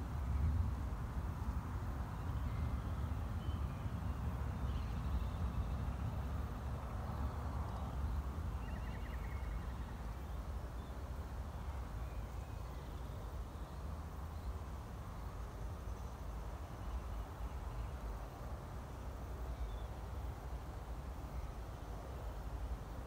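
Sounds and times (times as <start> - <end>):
soft hiss: 0.0 - 23.0.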